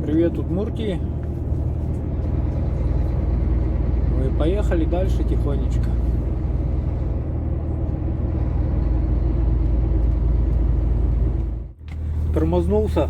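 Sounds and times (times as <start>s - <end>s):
truck cab engine and road drone: 0.0s - 13.0s.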